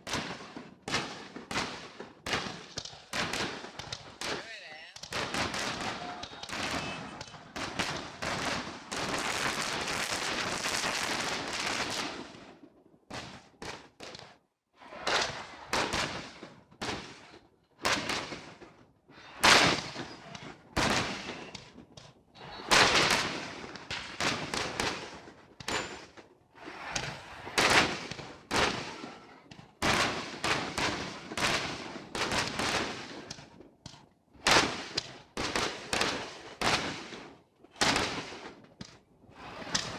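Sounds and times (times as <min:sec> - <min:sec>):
fireworks crackling and booming: 0:00.0 - 0:39.9.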